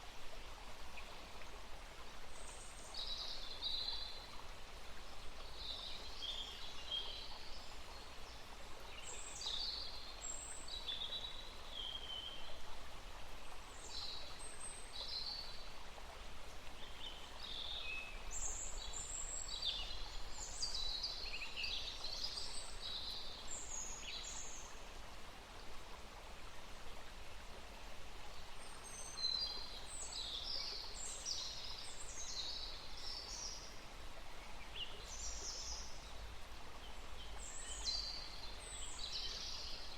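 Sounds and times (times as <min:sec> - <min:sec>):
soft outdoor hiss: 0:00.0 - 0:39.9.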